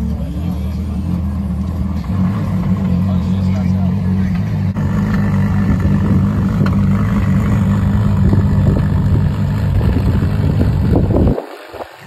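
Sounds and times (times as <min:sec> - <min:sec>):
car engine idling loudly: 0:00.0 - 0:12.0.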